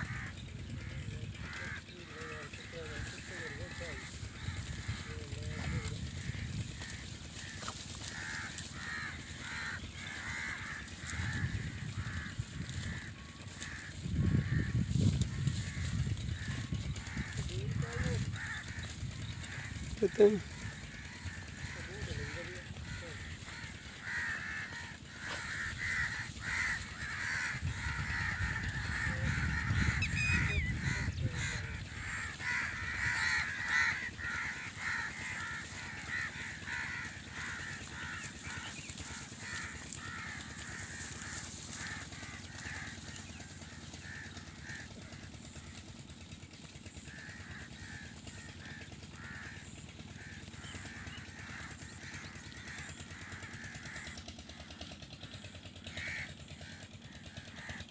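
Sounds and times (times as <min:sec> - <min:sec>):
birds calling rapidly: 0:00.0 - 0:57.9.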